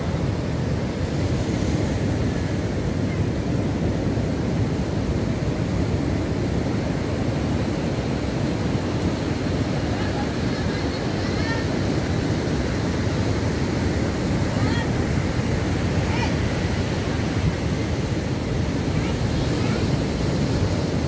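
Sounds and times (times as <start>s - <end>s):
heavy surf breaking on shore: 0.0s - 21.0s.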